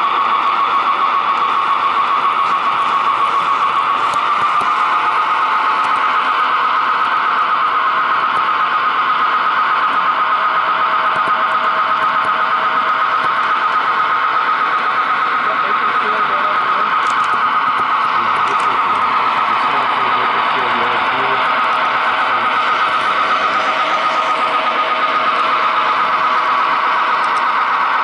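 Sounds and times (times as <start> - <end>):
model train high-pitched whine: 0.0 - 28.0.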